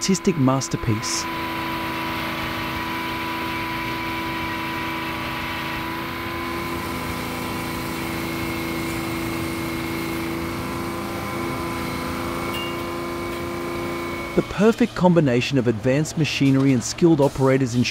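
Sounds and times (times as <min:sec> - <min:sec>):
sawmill machinery humming: 0:00.0 - 0:17.9.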